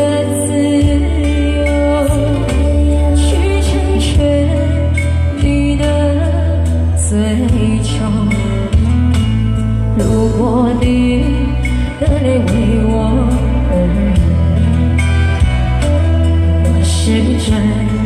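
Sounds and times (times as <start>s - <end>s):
pop ballad backing track: 0.0s - 18.0s
woman singing into microphone: 0.0s - 18.0s.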